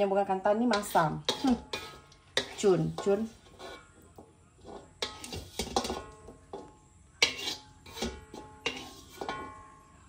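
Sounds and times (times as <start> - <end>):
metal utensil clinking on cookware: 0.6 - 3.9, 4.6 - 9.6.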